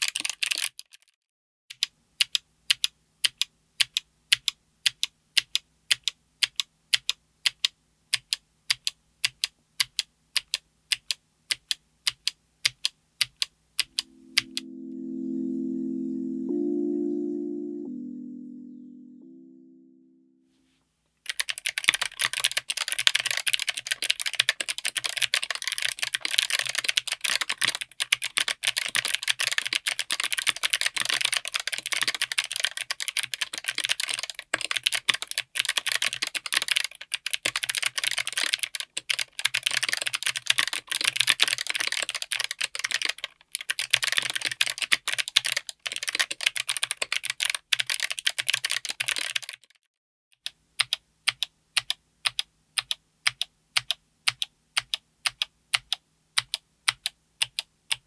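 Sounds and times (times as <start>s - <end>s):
typing on clicky keyboard: 0.0s - 14.7s, 21.3s - 49.8s, 50.4s - 58.0s.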